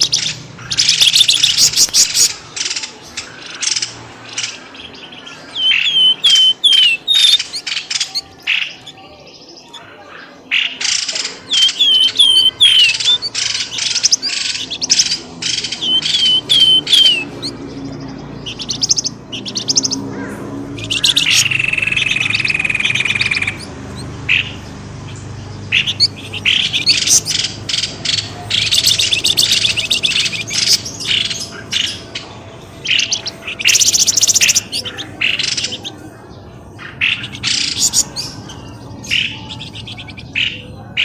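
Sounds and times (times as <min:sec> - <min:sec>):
rapid bird chirps and rattles: 0:00.0 - 0:41.0.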